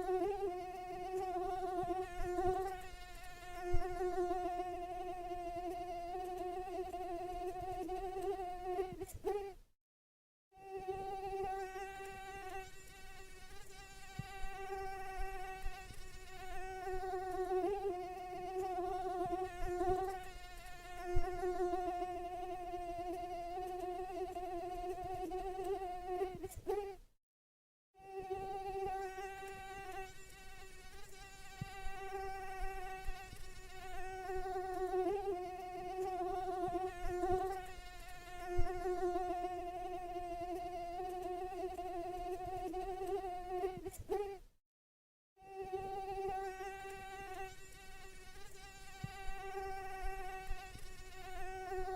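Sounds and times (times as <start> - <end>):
mosquito whine: 0.0 - 9.6, 10.6 - 27.0, 28.0 - 44.4, 45.4 - 51.9.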